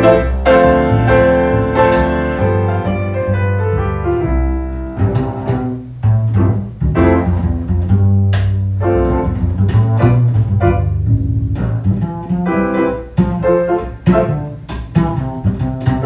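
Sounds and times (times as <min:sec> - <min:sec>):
double bass low notes: 0:00.0 - 0:16.0
piano chords: 0:00.0 - 0:16.0.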